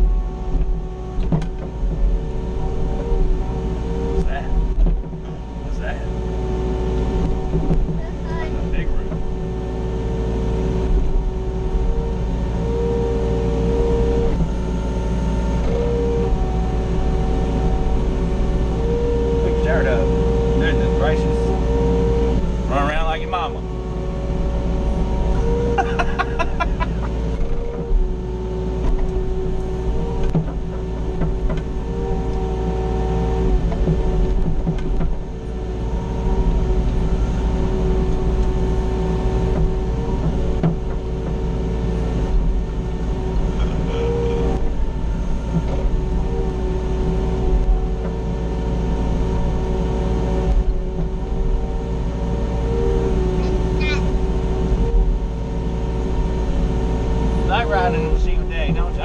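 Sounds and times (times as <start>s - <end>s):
excavator engine rumble: 0.0s - 59.0s
hydraulic whine: 0.0s - 59.0s.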